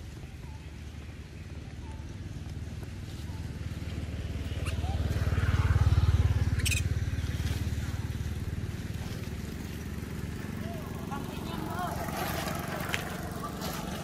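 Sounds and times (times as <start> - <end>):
vehicle engine passing by: 0.0 - 14.0.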